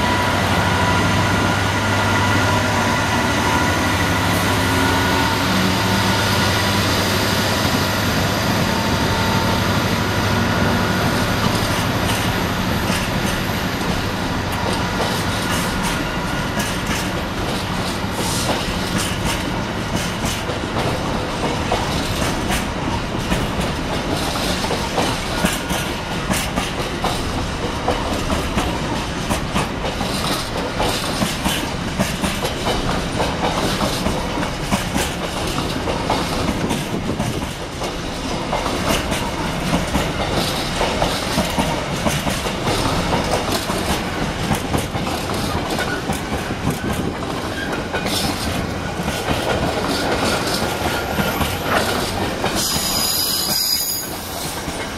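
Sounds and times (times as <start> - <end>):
train wheels clattering on track: 0.0 - 54.9.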